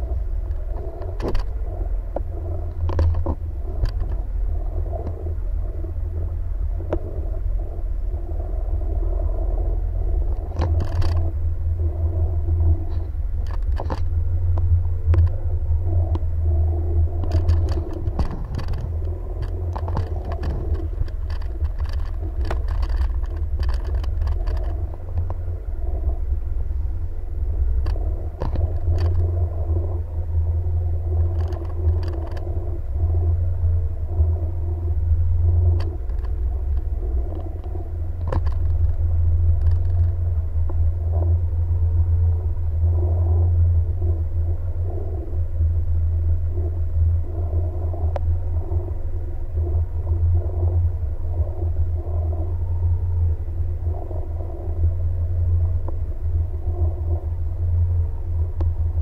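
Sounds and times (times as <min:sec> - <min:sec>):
jet ski engine running: 0:00.0 - 0:59.0.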